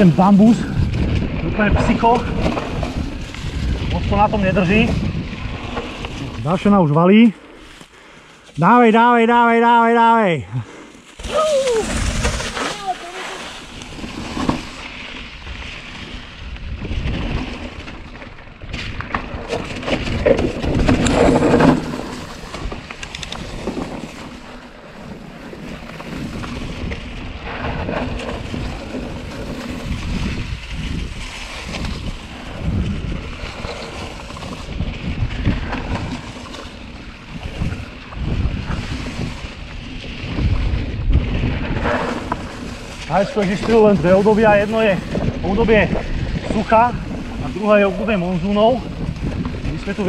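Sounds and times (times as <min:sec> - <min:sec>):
wind buffeting microphone: 0:00.0 - 0:07.8, 0:10.5 - 0:50.0
bike tyres rolling on leaves: 0:00.0 - 0:50.0.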